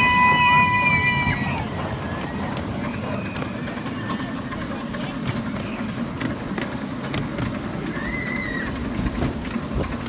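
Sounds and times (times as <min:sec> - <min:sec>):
miniature train rumbling on track: 0:00.0 - 0:10.0.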